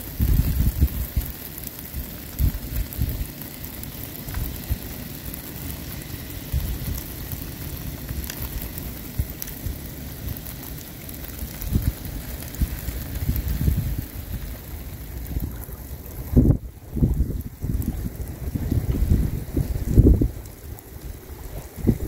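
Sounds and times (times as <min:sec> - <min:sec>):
wind buffeting microphone: 0:00.0 - 0:04.9, 0:05.8 - 0:10.5, 0:11.2 - 0:22.0
rain falling on river: 0:00.0 - 0:22.0.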